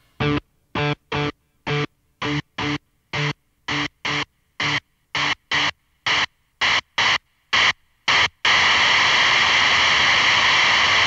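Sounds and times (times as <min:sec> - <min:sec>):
static hiss: 0:00.0 - 0:11.0.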